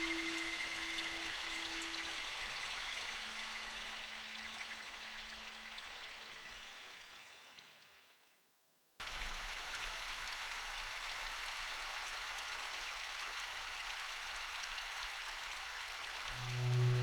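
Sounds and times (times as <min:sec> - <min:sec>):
rain falling in forest: 0:00.0 - 0:08.2, 0:09.0 - 0:17.0.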